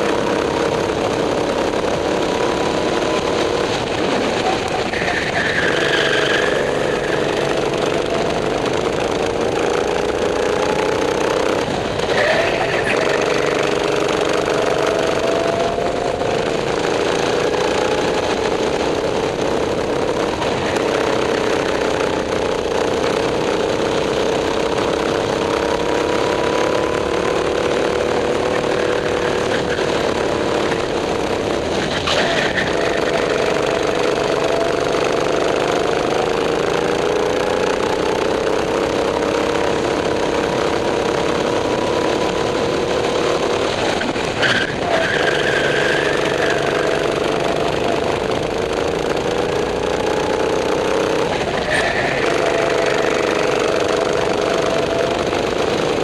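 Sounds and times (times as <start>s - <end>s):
go-kart engine running hard: 0.0s - 56.0s.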